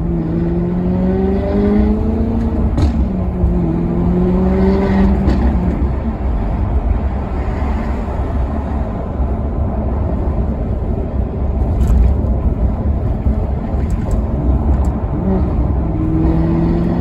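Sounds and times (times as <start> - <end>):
car engine accelerating: 0.0 - 17.0
road noise: 0.0 - 17.0.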